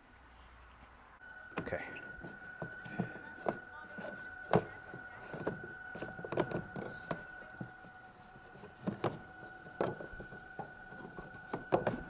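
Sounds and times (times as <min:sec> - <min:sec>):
plastic clicks and knocks: 0:01.6 - 0:12.0.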